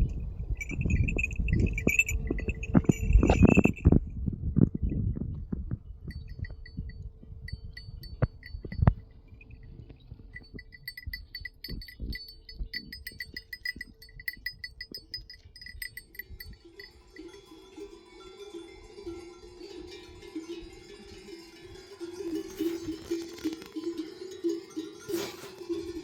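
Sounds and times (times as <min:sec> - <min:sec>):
livestock bells clinking: 0:00.0 - 0:04.0, 0:06.1 - 0:26.0.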